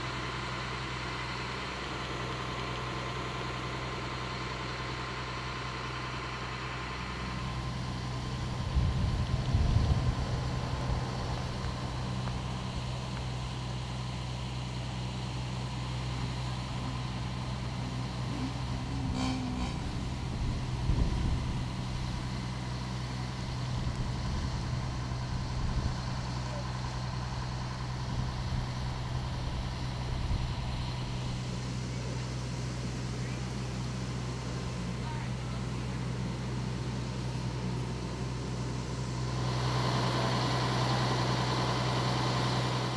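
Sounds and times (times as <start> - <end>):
large truck engine idling: 0.0 - 42.9.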